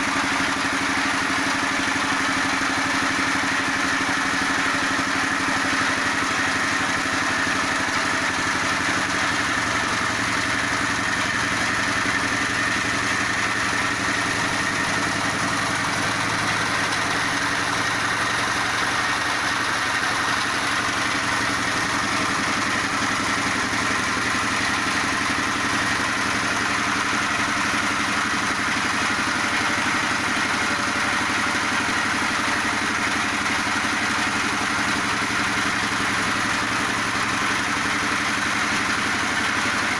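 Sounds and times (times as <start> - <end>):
pellet machine droning: 0.0 - 39.9.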